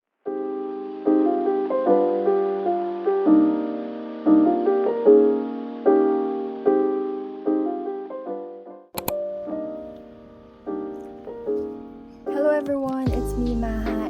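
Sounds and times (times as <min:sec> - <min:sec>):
soft piano chords: 0:00.2 - 0:14.0.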